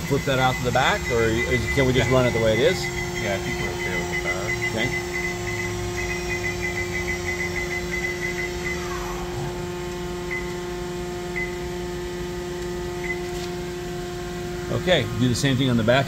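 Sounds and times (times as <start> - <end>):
machine spindle humming: 0.0 - 16.0.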